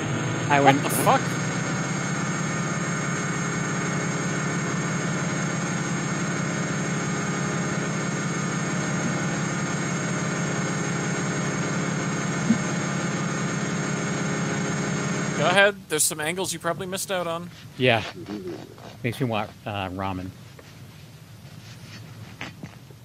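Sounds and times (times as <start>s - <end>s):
pump running drone: 0.0s - 20.2s.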